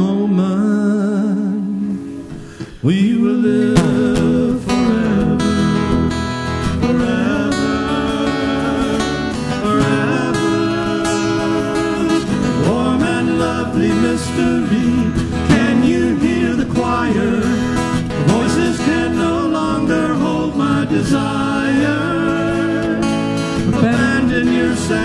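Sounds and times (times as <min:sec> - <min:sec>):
acoustic band playing: 0:00.0 - 0:25.0.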